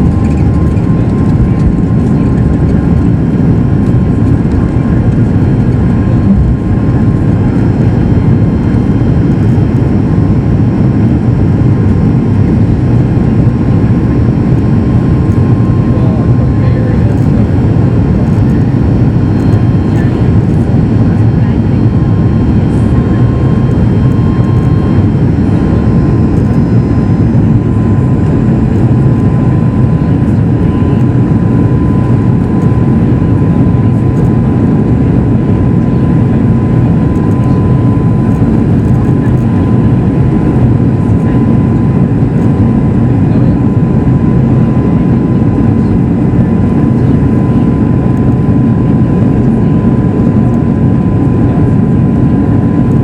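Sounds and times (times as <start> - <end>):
airplane cabin engine rumble: 0.0 - 53.0
thin steady whine: 0.0 - 53.0.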